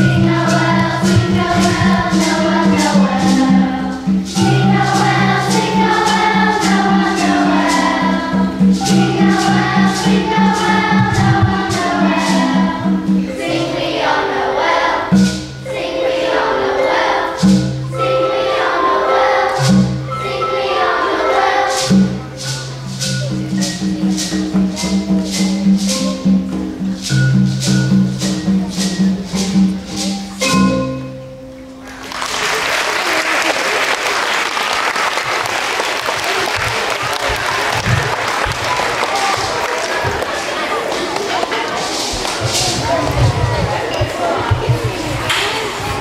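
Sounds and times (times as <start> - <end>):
shaker percussion beat: 0.0 - 16.0, 17.0 - 31.2, 35.1 - 46.0
children's choir singing: 0.0 - 32.1, 33.0 - 46.0
instrumental accompaniment: 0.0 - 33.4, 34.0 - 46.0.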